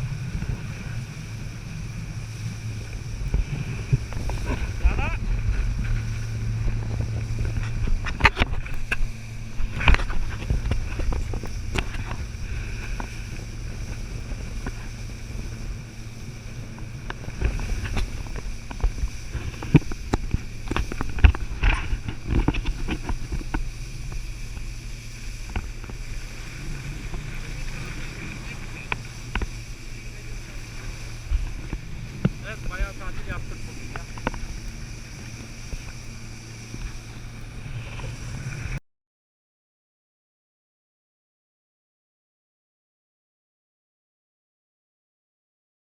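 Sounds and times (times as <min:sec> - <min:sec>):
speed boat engine running: 0:00.0 - 0:38.8.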